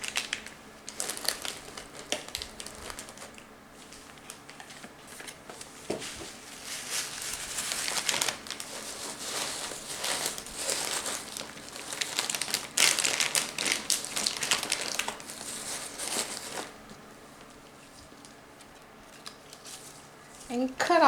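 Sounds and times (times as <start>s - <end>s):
packaging crinkling and rustling: 0.0s - 20.6s.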